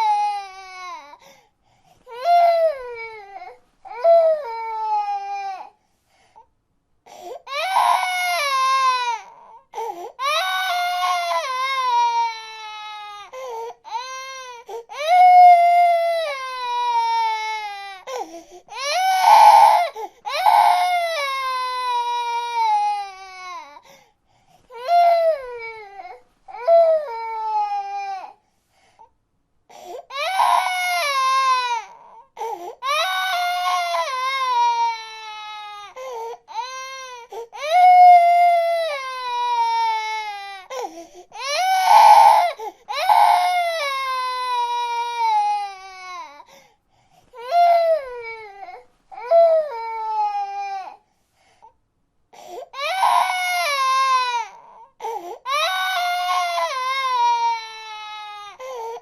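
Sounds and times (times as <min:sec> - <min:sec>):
baby crying: 0:00.0 - 0:01.2, 0:02.1 - 0:05.8, 0:07.4 - 0:23.8, 0:24.7 - 0:28.4, 0:29.7 - 0:46.5, 0:47.4 - 0:51.0, 0:52.4 - 0:59.0.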